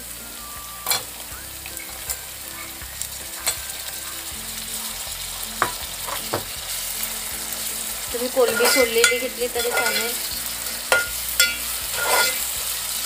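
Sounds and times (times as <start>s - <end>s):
prawns sizzling in hot oil: 0.0s - 13.0s.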